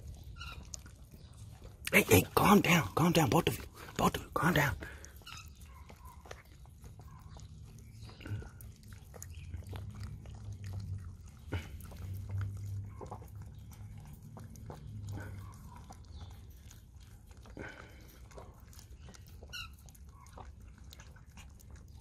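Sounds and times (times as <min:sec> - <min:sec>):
dogs licking and lapping: 0:00.0 - 0:22.0.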